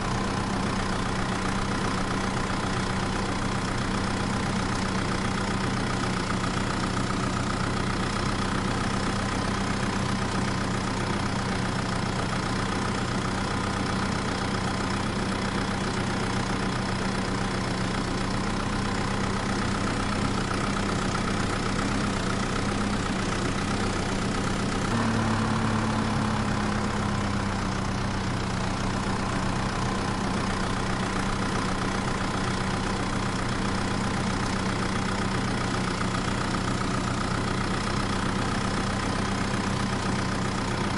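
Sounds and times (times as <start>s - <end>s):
vehicle engine idling: 0.0s - 40.9s.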